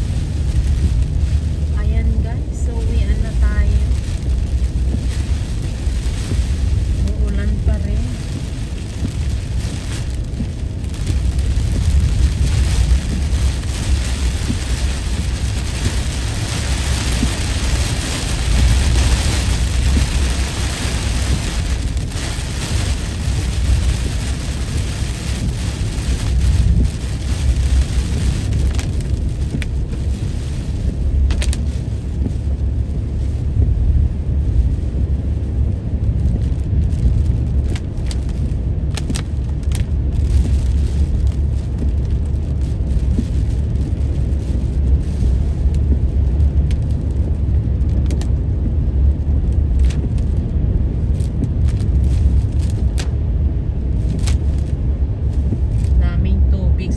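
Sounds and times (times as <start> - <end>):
rain hissing on windshield: 0.0 - 56.9
road and engine rumble: 0.0 - 56.9.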